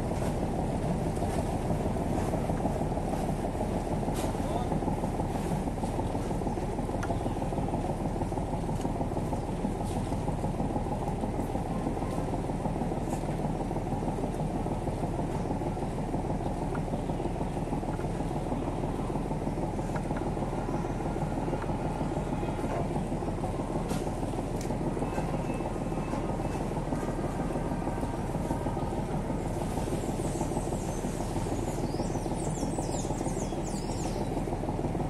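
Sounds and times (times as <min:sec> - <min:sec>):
engine running low rumble: 0:00.0 - 0:35.0.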